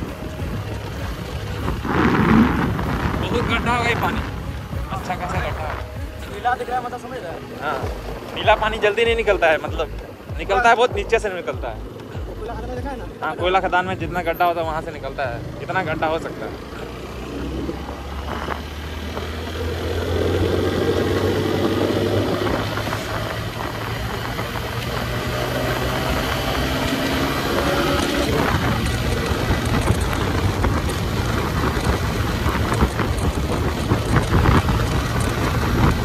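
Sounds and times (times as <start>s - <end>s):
motorcycle engine accelerating: 0.0s - 6.6s, 7.4s - 36.0s
road and wind noise: 0.0s - 36.0s.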